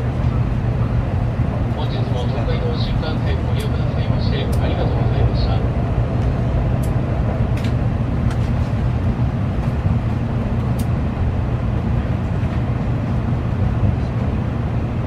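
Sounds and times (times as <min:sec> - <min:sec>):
train carriage low rumble: 0:00.0 - 0:15.0.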